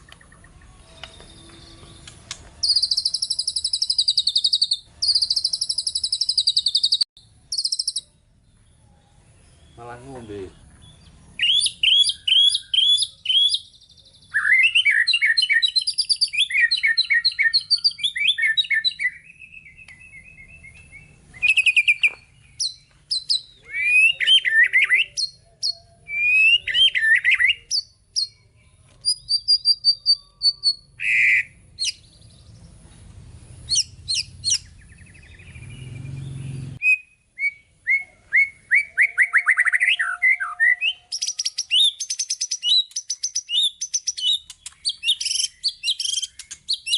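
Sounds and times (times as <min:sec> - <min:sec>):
songbird singing whistles and trills: 0:00.0 - 0:32.6, 0:33.7 - 0:46.9.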